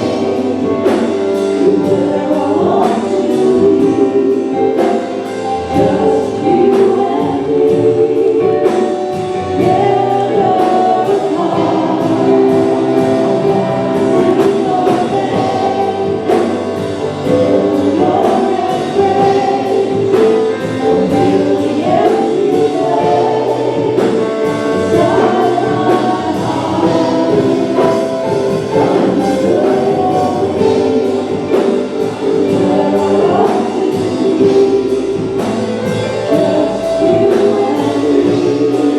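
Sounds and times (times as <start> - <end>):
gospel choir singing: 0.0 - 38.9.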